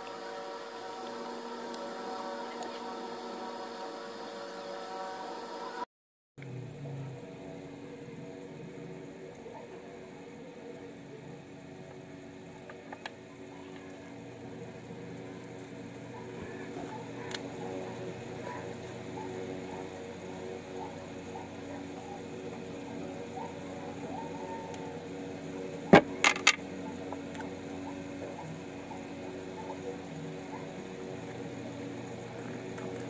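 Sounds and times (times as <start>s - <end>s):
low room hum: 0.0s - 5.8s, 6.4s - 33.0s
faint background sounds: 0.0s - 33.0s.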